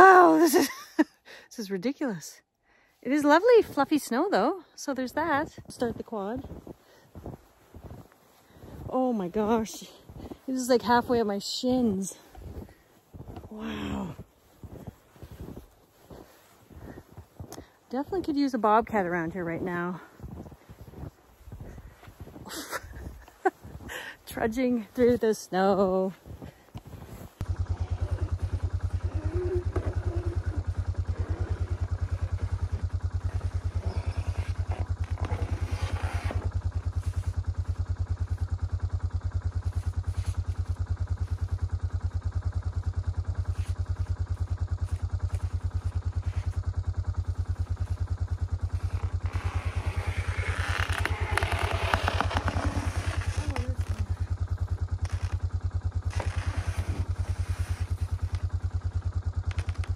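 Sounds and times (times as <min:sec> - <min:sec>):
quad engine running: 0:07.8 - 0:59.9.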